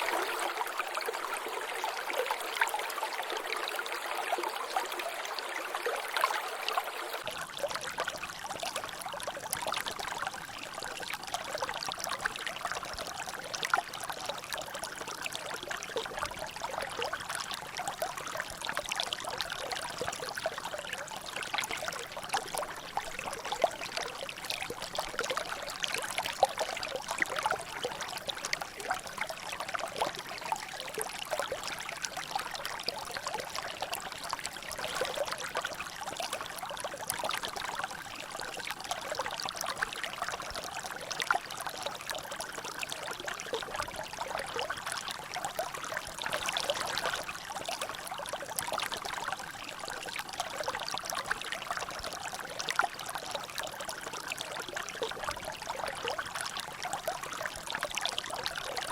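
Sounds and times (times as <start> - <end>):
water trickling and dripping: 0.0 - 58.9.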